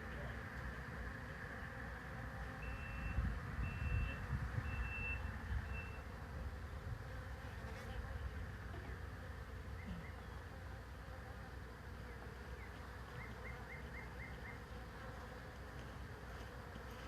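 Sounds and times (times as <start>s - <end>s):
honeybee swarm buzzing: 0.0s - 17.0s.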